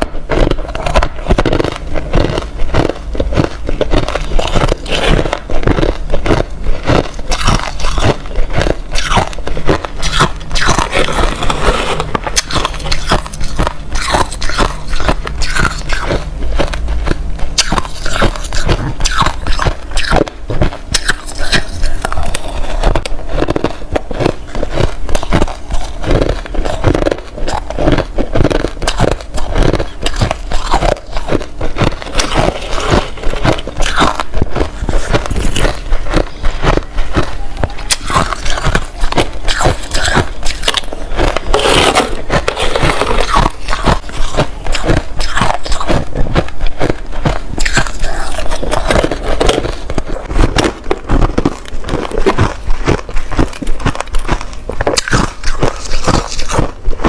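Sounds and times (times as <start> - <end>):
chewing crushed ice: 0.0 - 57.0.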